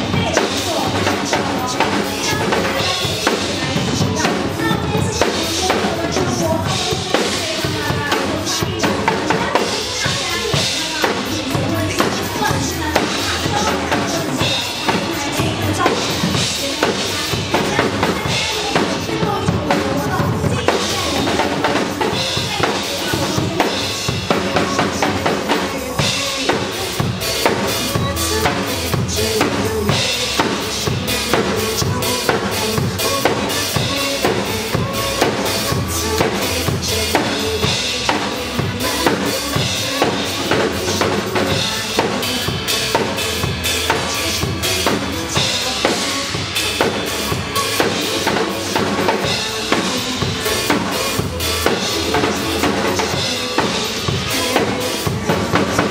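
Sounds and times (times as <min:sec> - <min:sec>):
drum kit beat: 0:00.0 - 0:55.9
live band playing pop: 0:00.0 - 0:55.9.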